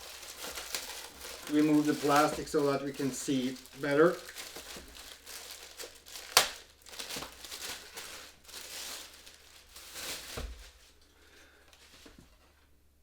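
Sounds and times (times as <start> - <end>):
plastic wrapping crinkling: 0.0 - 12.4.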